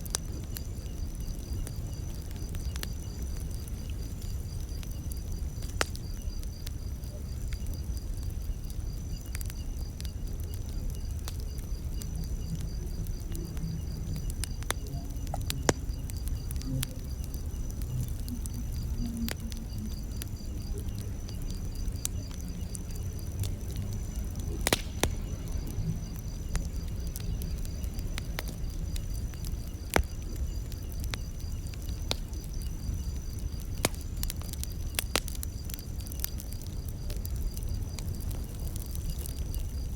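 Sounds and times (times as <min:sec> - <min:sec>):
campfire flames rumbling: 0:00.0 - 0:39.9
fire crackling and popping: 0:00.0 - 0:39.9
night insects trilling: 0:00.0 - 0:39.9.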